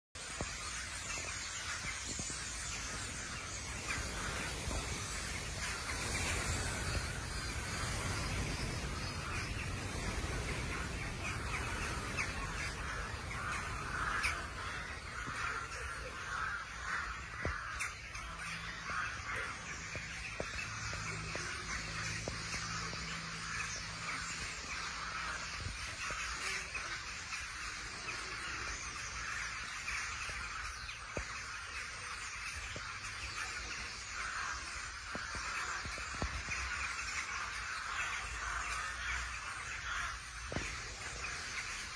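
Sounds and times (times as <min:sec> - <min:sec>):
flock of crows cawing: 0:00.2 - 0:41.9.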